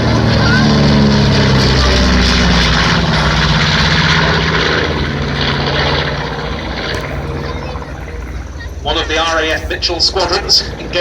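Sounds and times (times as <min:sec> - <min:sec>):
propeller plane engines passing: 0:00.0 - 0:11.0.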